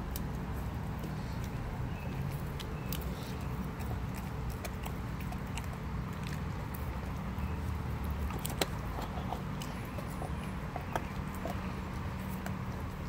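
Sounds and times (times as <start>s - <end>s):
dog chewing a bone: 0.0s - 13.0s.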